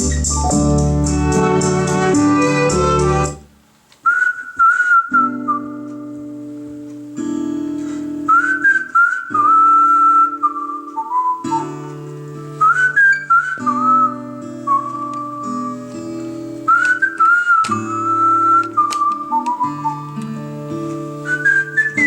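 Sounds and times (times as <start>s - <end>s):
whistled melody: 0.0s - 3.4s, 4.0s - 6.2s, 8.2s - 12.0s, 12.6s - 20.2s, 21.2s - 22.0s
acoustic guitar and bass chords: 0.0s - 3.6s, 5.2s - 22.0s.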